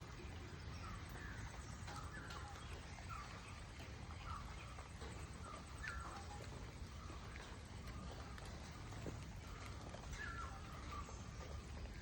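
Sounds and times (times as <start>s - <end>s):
rain patter: 0.0s - 12.0s.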